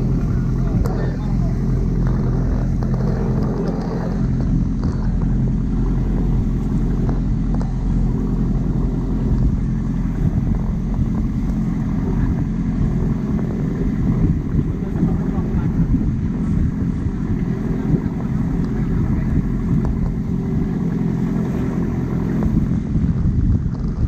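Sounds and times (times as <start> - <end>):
boat engine droning: 0.0 - 24.0
water splashing along hull: 0.0 - 24.0.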